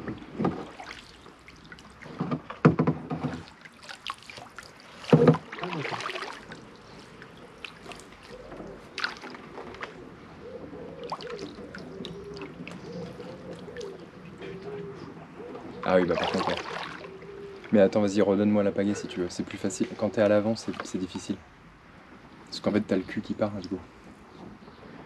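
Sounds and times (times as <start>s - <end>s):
paddle splashing water: 0.0s - 17.9s, 19.6s - 22.5s.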